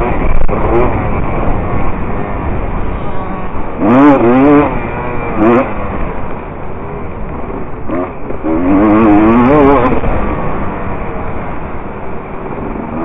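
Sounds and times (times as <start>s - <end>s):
dirt bike engine revving: 0.0s - 13.0s
heavy low rumble: 0.0s - 13.0s.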